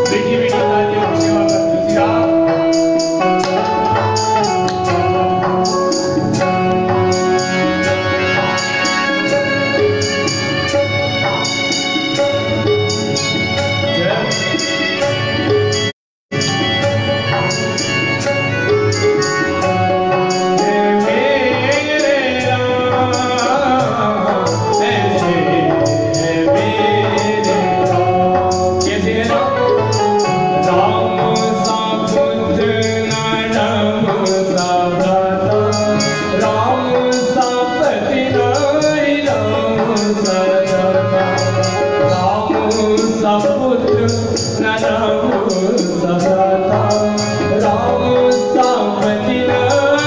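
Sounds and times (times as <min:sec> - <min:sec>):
man singing into microphone: 0:00.0 - 0:12.4, 0:20.1 - 0:50.0
instrumental accompaniment: 0:00.0 - 0:50.0
percussion beat: 0:00.0 - 0:50.0.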